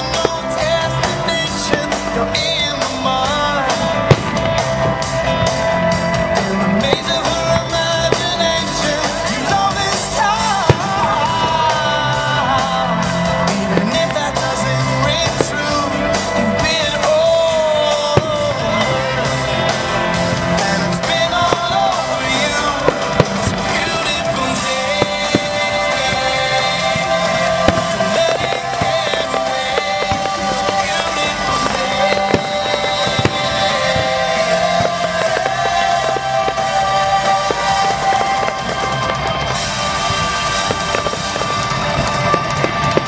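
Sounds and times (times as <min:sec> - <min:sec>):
fireworks bangs: 0:00.0 - 0:43.0
rock and roll song with vocals: 0:00.0 - 0:43.0.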